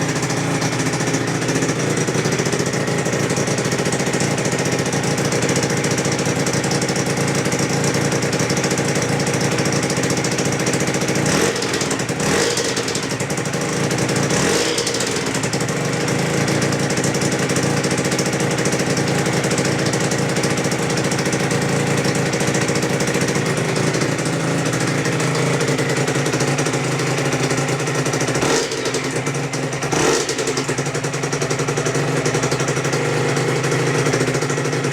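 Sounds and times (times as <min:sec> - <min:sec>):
two-stroke motorcycle engine idling: 0:00.0 - 0:34.9.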